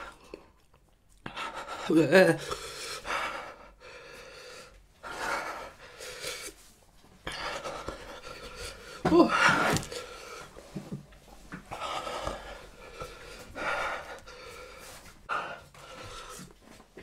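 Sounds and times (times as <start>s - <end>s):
man panting: 1.2s - 10.6s, 11.7s - 16.6s.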